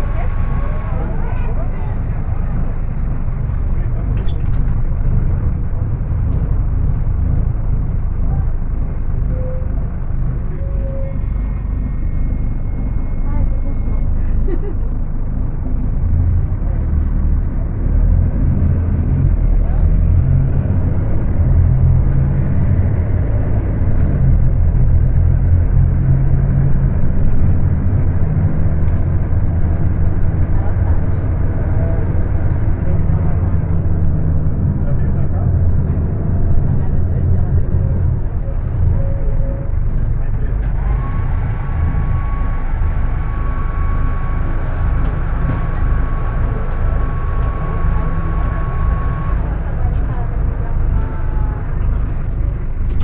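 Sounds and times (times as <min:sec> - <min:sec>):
bus diesel engine droning: 0:00.0 - 0:53.0.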